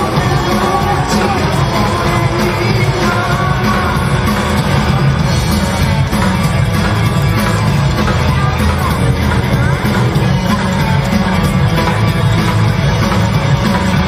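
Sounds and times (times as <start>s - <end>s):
rock and roll music with singing: 0.0s - 14.0s.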